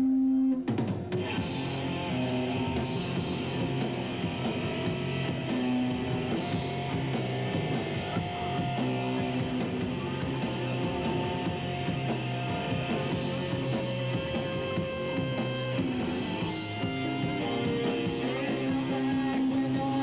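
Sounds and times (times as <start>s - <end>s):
electric guitar chords ringing: 0.0s - 20.0s
rock band playing live: 0.6s - 20.0s.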